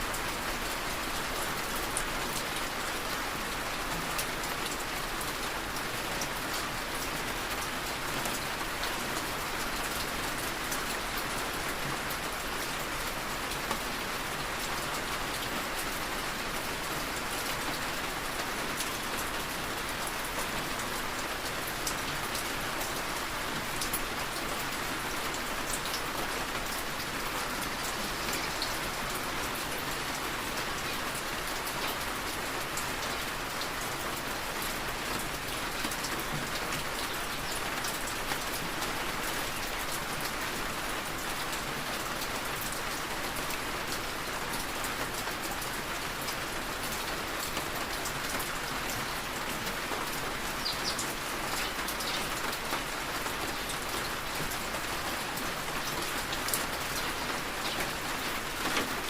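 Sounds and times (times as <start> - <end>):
rain tapping on a window: 0.1 - 59.0.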